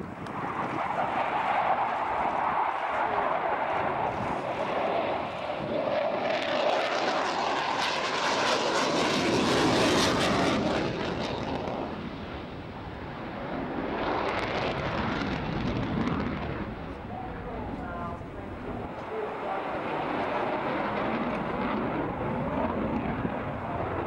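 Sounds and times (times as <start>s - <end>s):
jet flying past: 0.0s - 24.0s.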